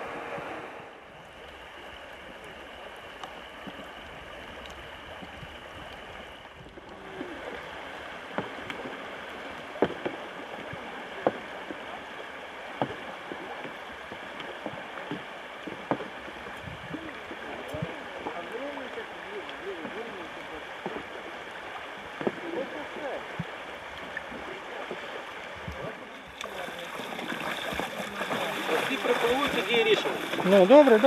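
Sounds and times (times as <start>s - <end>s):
paddle strokes with knocks: 0.0s - 31.0s
river water rushing and sloshing: 0.0s - 31.0s.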